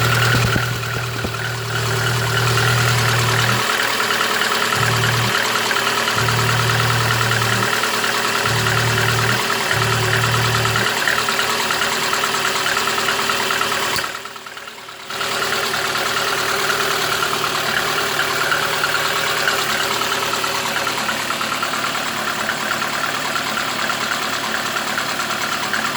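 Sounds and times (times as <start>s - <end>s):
car engine idling with knock: 0.0s - 25.9s.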